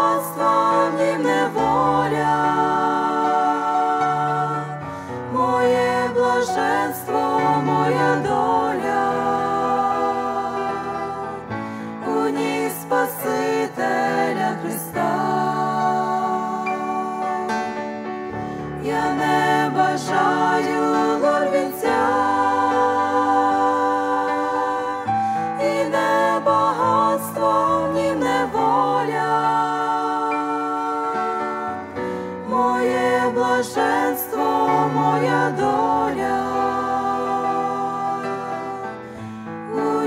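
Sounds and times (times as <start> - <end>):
grand piano accompaniment: 0.0 - 40.0
women singing a hymn: 0.0 - 40.0.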